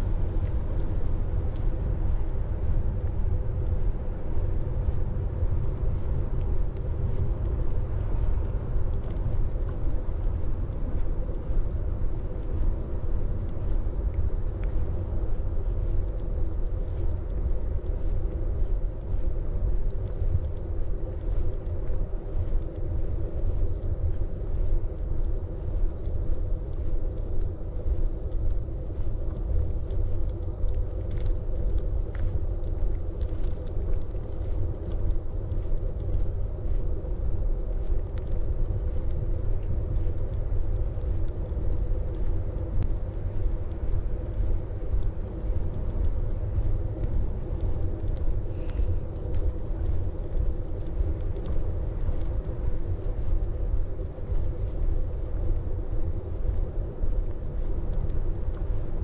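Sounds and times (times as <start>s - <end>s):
faint steady hum: 0.0s - 59.0s
wind buffeting microphone: 0.0s - 59.0s
light ticks: 0.3s - 59.0s.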